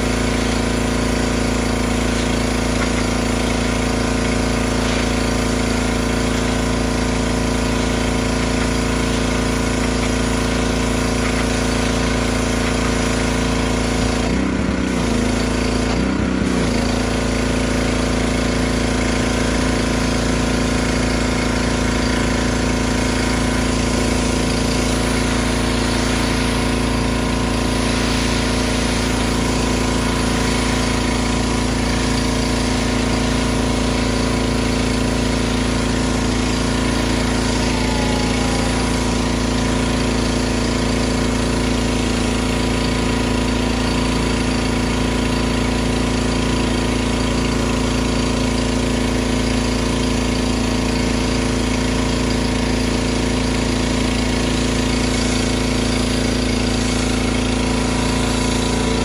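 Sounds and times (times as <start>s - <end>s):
high-pressure spray hissing on concrete: 0.0s - 59.0s
small engine running: 0.0s - 59.0s.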